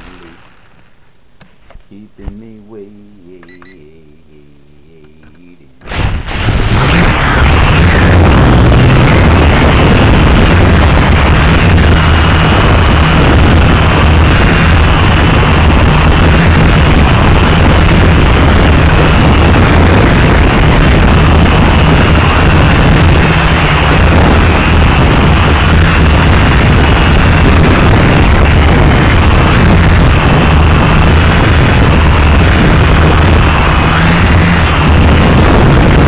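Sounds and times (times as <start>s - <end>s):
drone motors buzzing whir: 0.0s - 36.0s.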